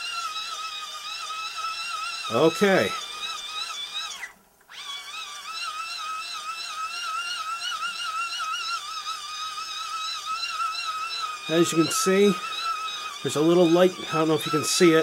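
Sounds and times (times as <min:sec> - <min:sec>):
hand-cranked generator whining: 0:00.0 - 0:15.0.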